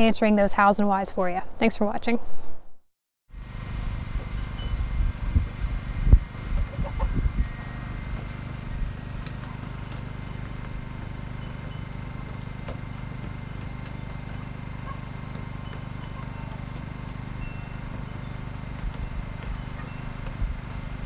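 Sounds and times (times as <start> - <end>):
low mechanical hum: 3.4 - 21.0.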